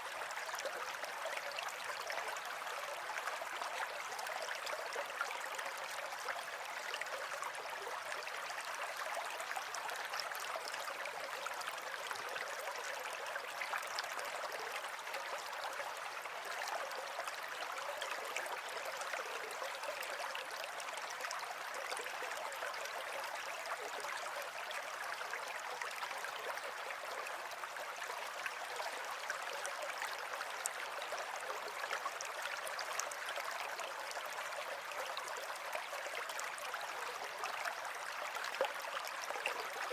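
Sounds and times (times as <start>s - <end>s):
water flowing steadily: 0.0s - 39.9s.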